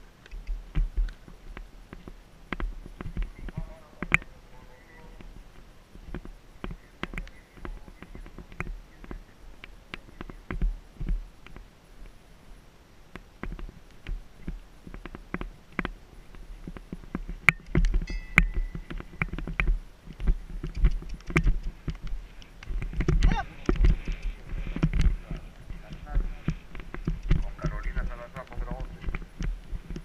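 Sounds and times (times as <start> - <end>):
horse hoofbeats on grass: 0.0 - 12.2, 13.2 - 30.0
low wind rumble: 0.0 - 30.0.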